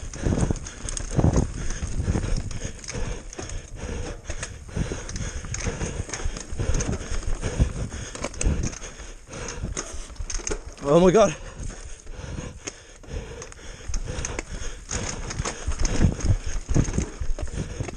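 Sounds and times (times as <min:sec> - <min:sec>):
bike clattering over bumps: 0:00.0 - 0:17.9
bike tyres on dirt: 0:00.0 - 0:17.9.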